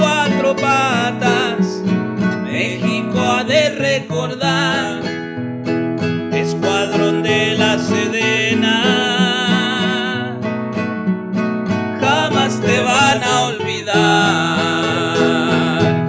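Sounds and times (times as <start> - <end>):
strummed acoustic guitars: 0.0 - 16.0.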